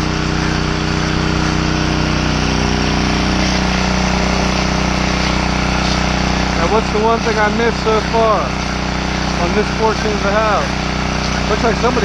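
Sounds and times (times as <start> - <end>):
hissing water spray: 0.0 - 12.0
pressure washer engine running: 0.0 - 12.0.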